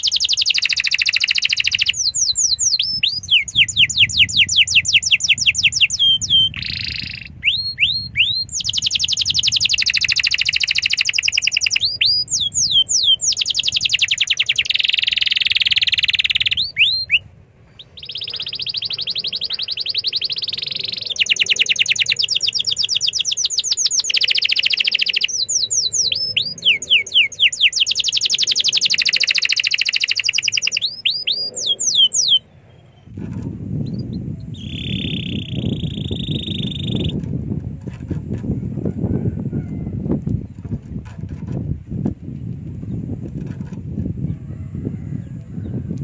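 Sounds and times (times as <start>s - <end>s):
canary singing trills: 0.0s - 41.5s.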